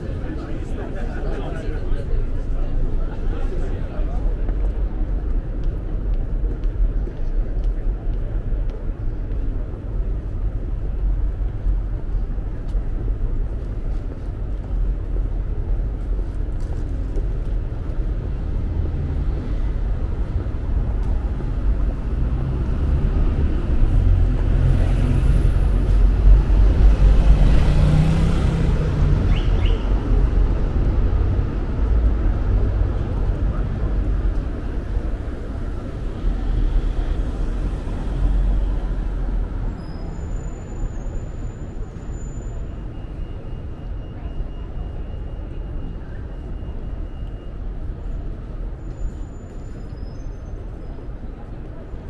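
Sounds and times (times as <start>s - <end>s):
low rumble of road traffic: 0.0s - 52.0s.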